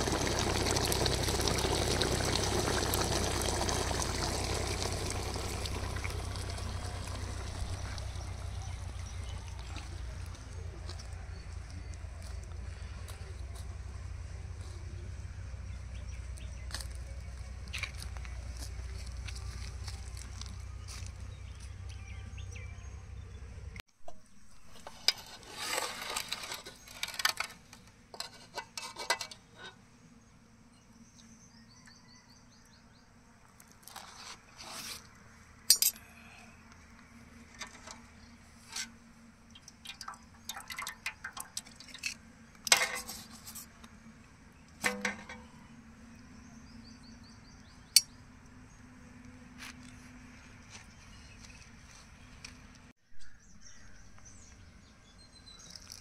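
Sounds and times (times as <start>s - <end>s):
low steady hum: 0.0s - 32.0s, 35.1s - 56.0s.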